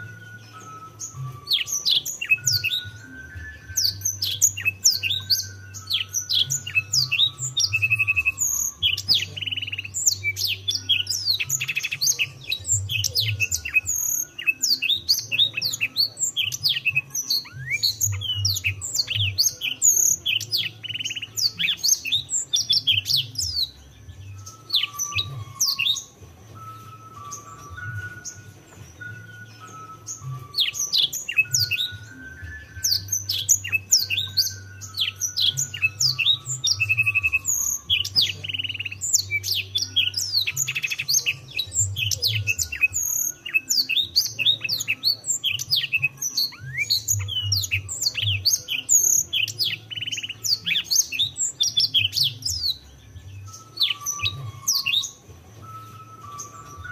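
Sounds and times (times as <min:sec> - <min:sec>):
canary singing: 0:00.0 - 0:56.9.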